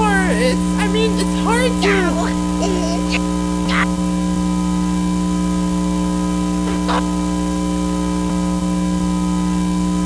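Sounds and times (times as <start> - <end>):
loud electrical hum: 0.0 - 10.0.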